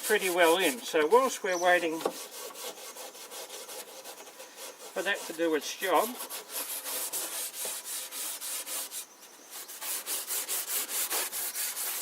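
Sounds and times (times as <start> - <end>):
steel wool rubbing wood: 0.0 - 12.0.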